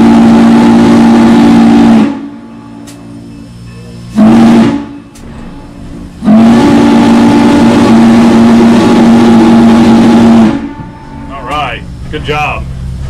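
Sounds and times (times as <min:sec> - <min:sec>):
steam whistle chord: 0:00.0 - 0:05.3, 0:06.2 - 0:11.6.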